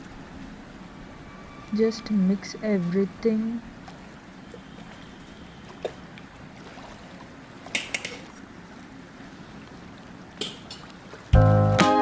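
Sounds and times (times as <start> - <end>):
low steady background noise: 0.0 - 11.4.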